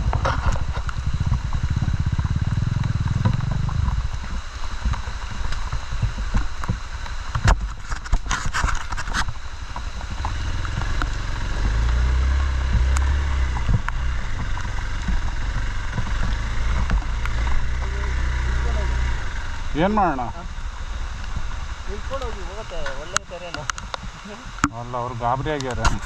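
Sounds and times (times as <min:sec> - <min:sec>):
off-road motorcycle engine running: 0:00.0 - 0:26.0.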